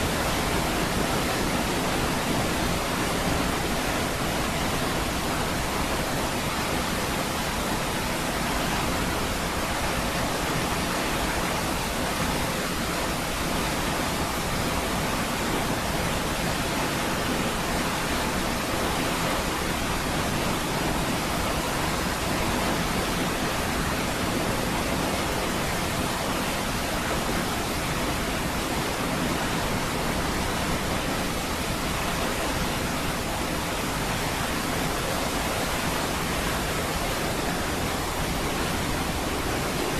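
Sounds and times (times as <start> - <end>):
large waterfall rushing: 0.0 - 39.9.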